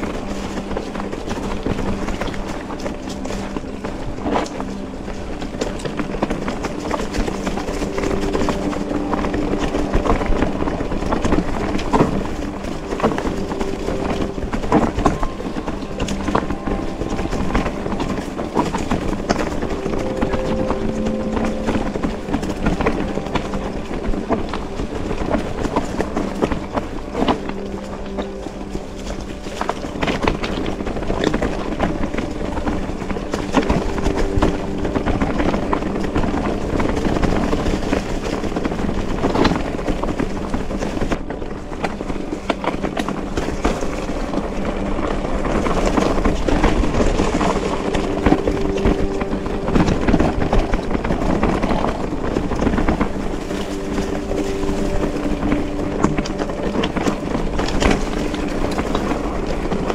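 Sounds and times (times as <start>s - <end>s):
bike tyres rolling rumble: 0.0s - 59.9s
low hum: 0.0s - 59.9s.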